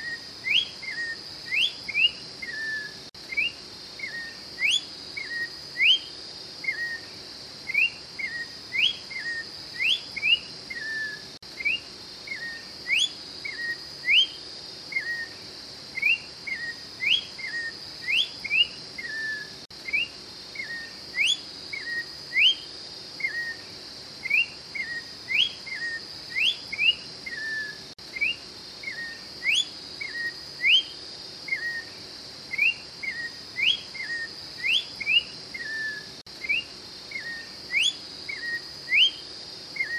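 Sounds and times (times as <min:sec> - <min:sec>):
bird singing whistled phrases: 0:00.0 - 0:07.1, 0:07.7 - 0:15.4, 0:16.0 - 0:23.6, 0:24.2 - 0:31.9, 0:32.5 - 0:39.2
steady high hiss: 0:00.0 - 0:39.9.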